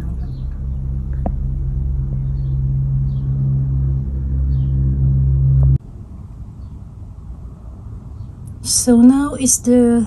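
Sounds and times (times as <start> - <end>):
background noise: 0.0 - 10.0
low mechanical hum: 0.0 - 10.0.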